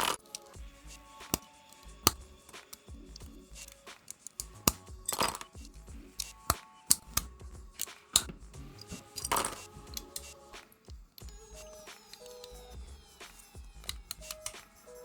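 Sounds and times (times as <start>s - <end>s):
plastic toy bricks clicking: 0.0s - 0.6s, 1.2s - 15.0s
background music: 0.0s - 15.0s.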